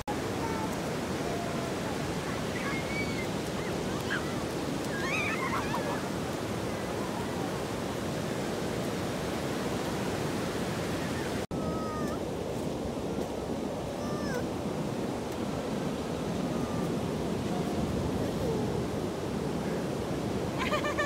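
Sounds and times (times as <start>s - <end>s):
sea surf breaking on beach: 0.0s - 21.0s.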